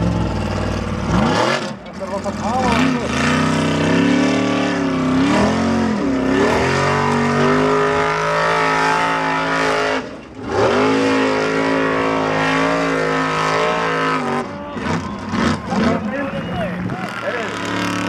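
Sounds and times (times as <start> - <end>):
buggy engine revving hard: 0.0 - 18.0.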